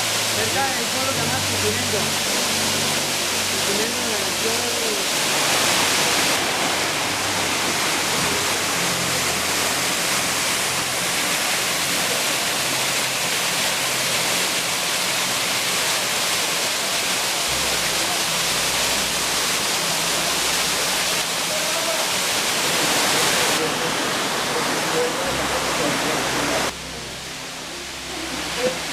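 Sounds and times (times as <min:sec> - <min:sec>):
fast-flowing water rushing: 0:00.0 - 0:28.9.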